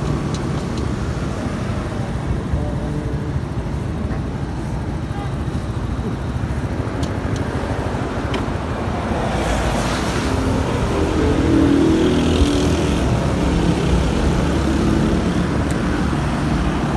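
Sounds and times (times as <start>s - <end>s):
road and wind rumble: 0.0s - 16.9s.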